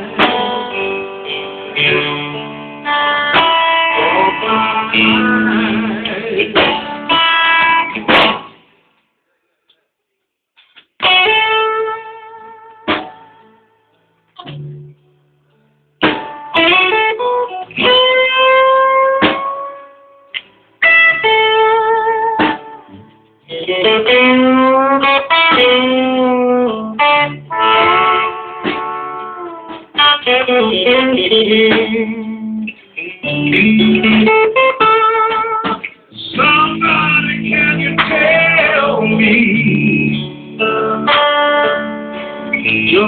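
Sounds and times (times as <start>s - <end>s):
electric guitar blues lead: 0.0s - 8.8s, 10.6s - 43.0s.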